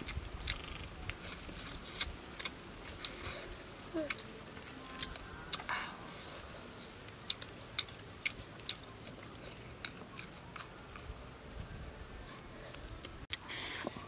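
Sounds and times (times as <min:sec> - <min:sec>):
chewing: 0:00.0 - 0:11.7.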